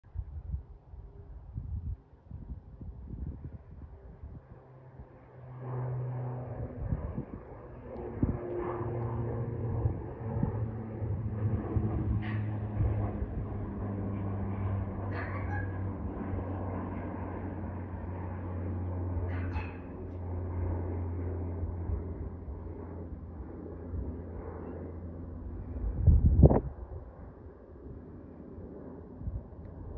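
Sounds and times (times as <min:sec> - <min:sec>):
turboprop aircraft propeller drone: 0:00.1 - 0:29.9.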